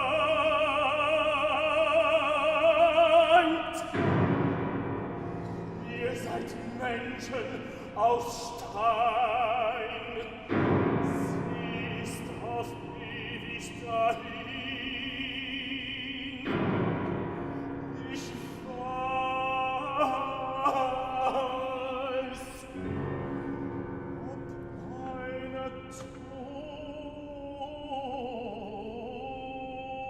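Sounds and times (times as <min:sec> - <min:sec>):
operatic singing: 0:00.0 - 0:23.6, 0:24.2 - 0:30.0
classical instrumental accompaniment: 0:00.0 - 0:29.1.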